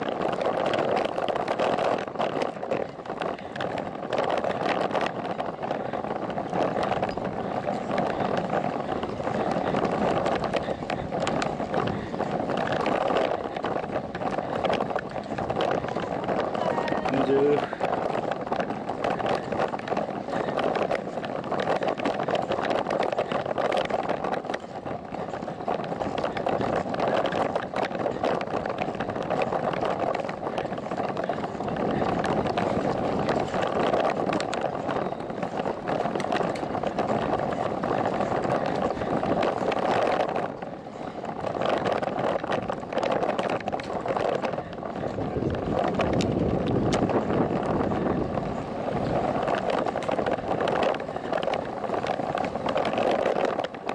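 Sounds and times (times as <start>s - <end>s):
bicycle ride rushing noise: 0.0s - 53.9s
fine rattling and ticking: 0.0s - 53.9s.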